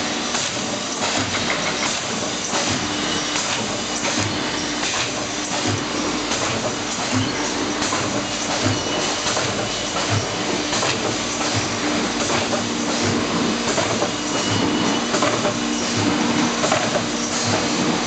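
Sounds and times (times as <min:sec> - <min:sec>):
machine hum and clatter: 0:00.0 - 0:18.0.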